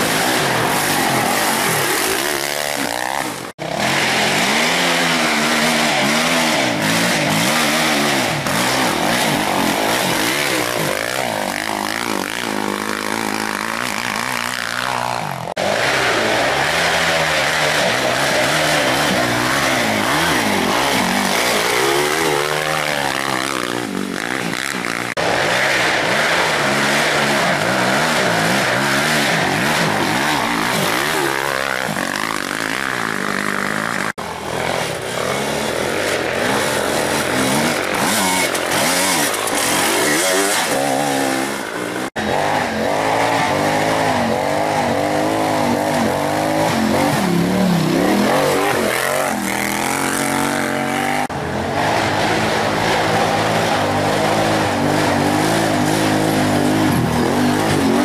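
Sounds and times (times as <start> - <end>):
off-road engines revving: 0.0 - 58.0.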